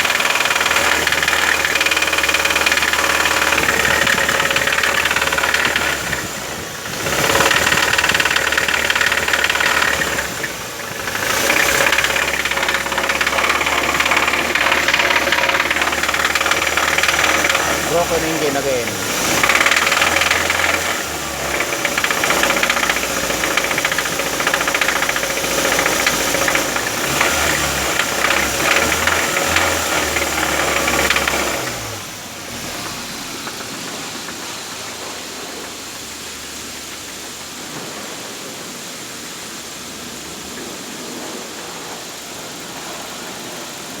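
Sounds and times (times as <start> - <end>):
car engine ticking: 0.0 - 37.3.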